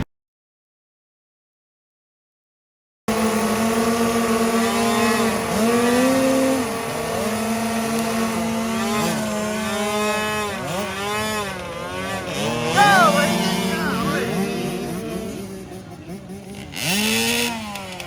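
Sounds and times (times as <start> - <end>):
dirt bike engines revving: 3.1 - 18.0.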